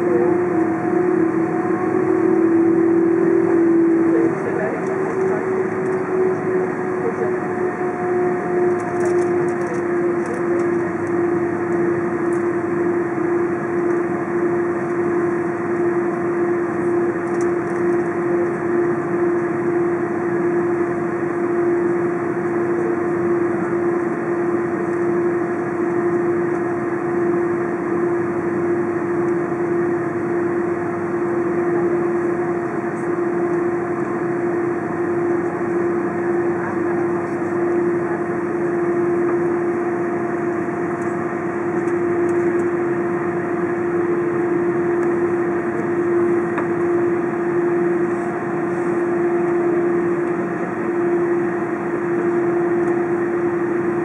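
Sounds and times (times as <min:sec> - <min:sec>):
airplane cabin hum: 0:00.0 - 0:54.0
constant tone: 0:00.0 - 0:54.0.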